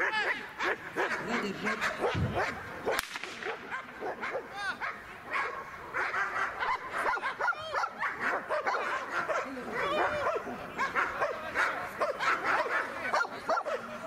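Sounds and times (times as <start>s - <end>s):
dogs barking: 0.0s - 14.0s.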